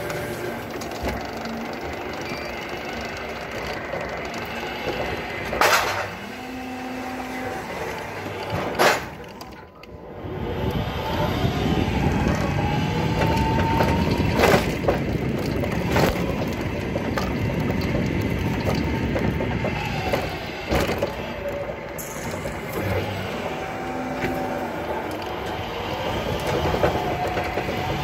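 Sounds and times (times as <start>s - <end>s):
electric motor whine: 0.0s - 9.4s, 10.0s - 28.0s
wheels rumbling on floor: 0.0s - 28.0s.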